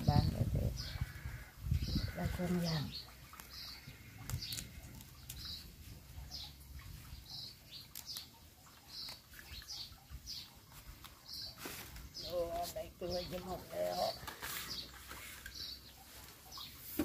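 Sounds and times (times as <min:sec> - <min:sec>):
small bird chirping: 0:00.1 - 0:16.9.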